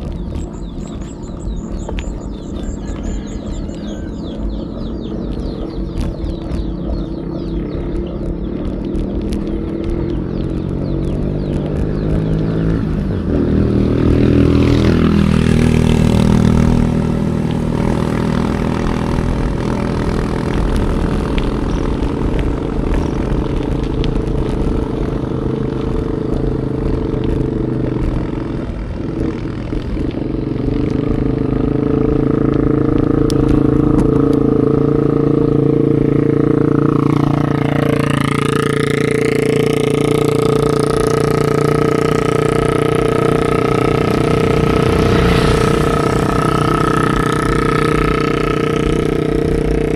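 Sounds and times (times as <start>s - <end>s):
vehicle engines passing: 0.0s - 49.9s.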